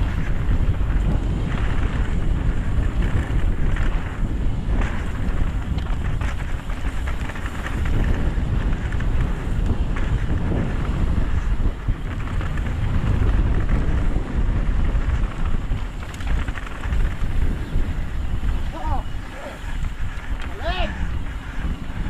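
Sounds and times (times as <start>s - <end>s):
tyres rolling on gravel: 0.0s - 22.0s
wind buffeting microphone: 0.0s - 22.0s.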